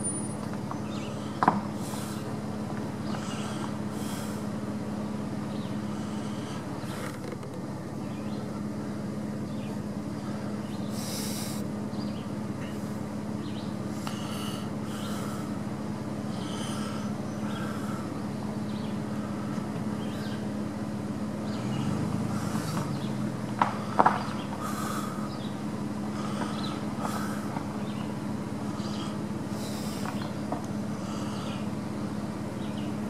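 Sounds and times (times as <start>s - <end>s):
truck engine idling and revving: 0.0s - 33.0s.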